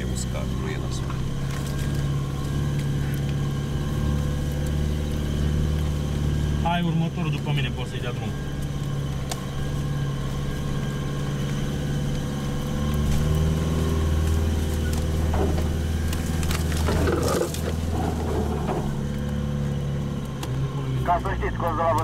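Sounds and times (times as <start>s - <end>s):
car engine running at low speed: 0.0s - 22.0s.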